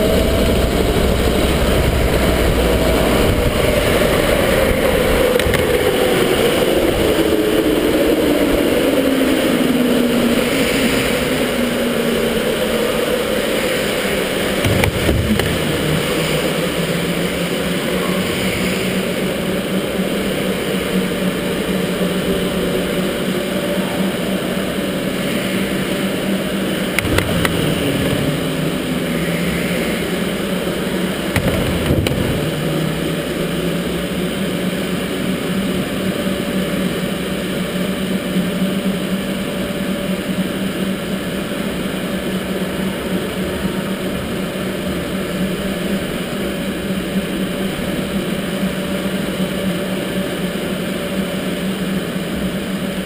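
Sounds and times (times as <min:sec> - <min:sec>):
electric motor whine: 0:00.0 - 0:53.0
tyre and air noise: 0:00.0 - 0:53.0.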